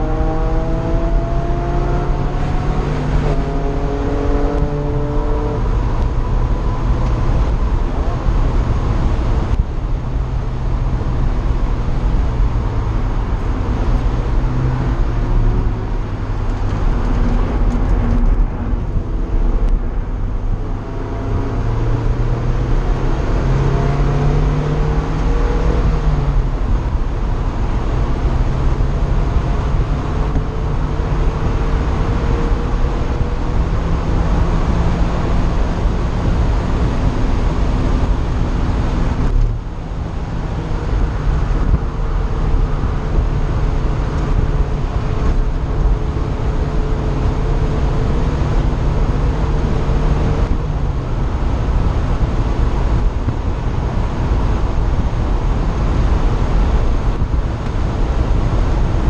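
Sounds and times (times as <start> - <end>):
car engine at full throttle: 0.0 - 59.0
heavy low wind rush: 0.0 - 59.0.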